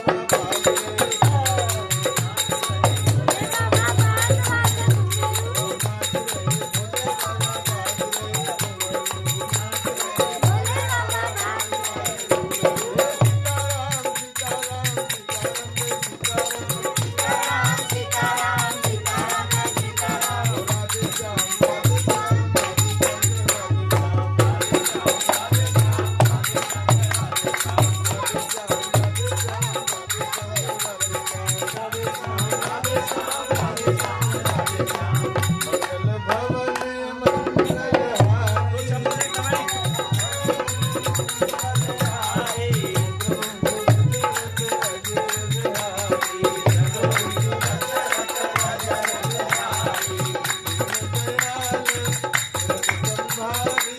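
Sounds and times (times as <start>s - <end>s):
devotional music: 0.0s - 53.9s
jingling hand percussion: 0.0s - 53.9s.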